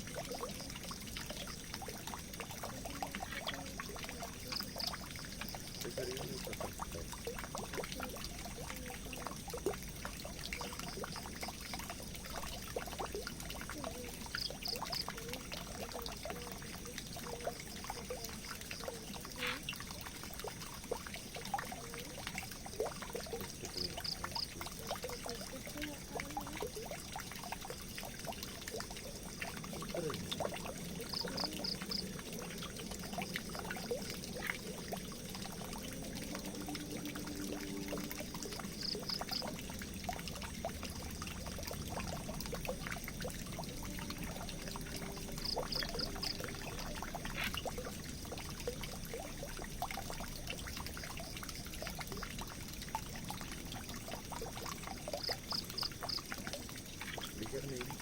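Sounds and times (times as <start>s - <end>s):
water pouring into a drain: 0.0s - 58.0s.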